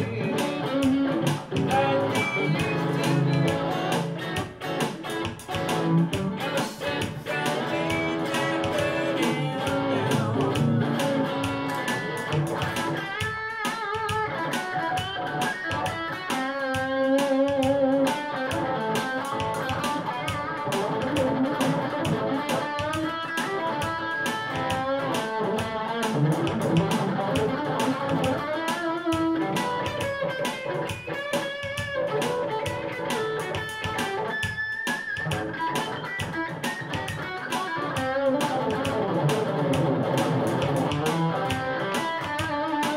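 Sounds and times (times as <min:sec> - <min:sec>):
electric guitar playing: 0:00.0 - 0:42.9
steady drum beat: 0:00.0 - 0:42.9.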